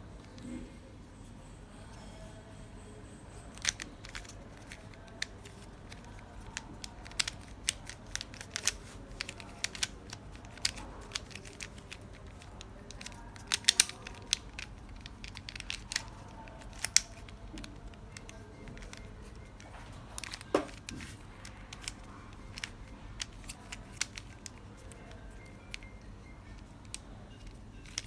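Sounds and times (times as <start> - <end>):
puzzle cube clicking: 3.5 - 28.0.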